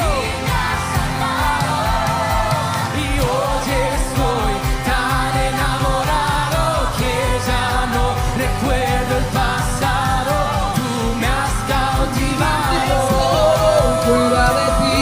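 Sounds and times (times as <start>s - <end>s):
fast bass beat: 0.0s - 15.0s
person singing: 0.0s - 15.0s.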